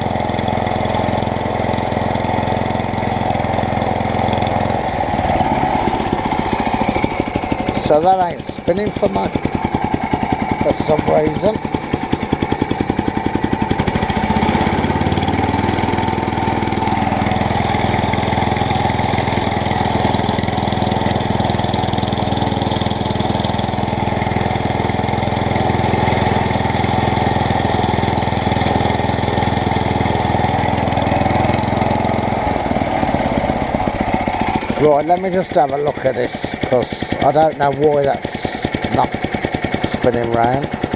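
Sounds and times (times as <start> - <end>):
lawnmower engine running: 0.0 - 40.9.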